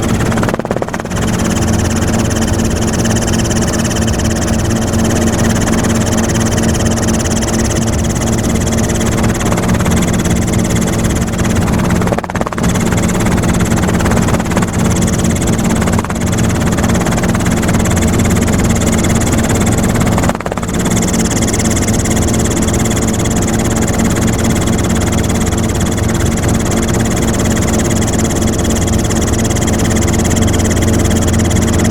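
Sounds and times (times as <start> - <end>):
constant whine: 0.0 - 31.9
helicopter engine and rotor drone: 0.0 - 31.9.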